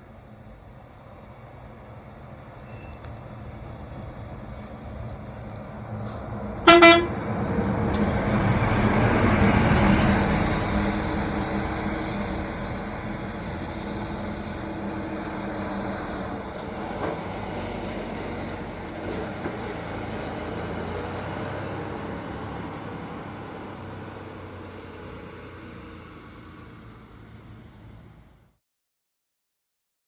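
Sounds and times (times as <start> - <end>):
coach diesel engine driving away: 1.6 - 28.6.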